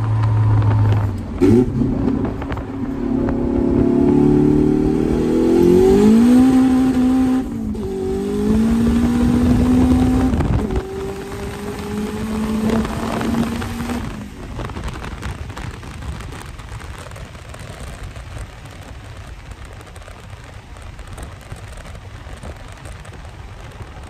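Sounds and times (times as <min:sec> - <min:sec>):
car engine drone: 0:00.0 - 0:24.0
road rumble: 0:00.0 - 0:24.0
wind buffeting microphone: 0:00.0 - 0:24.0.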